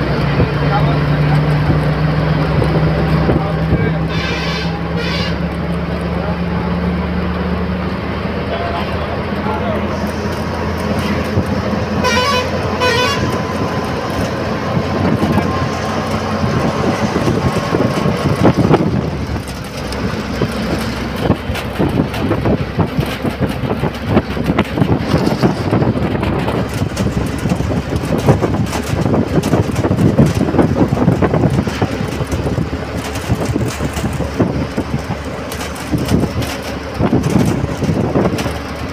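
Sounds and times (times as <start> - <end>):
bus body rattling: 0.0 - 38.9
bus diesel engine running: 0.0 - 38.9
road and wind noise: 0.0 - 38.9.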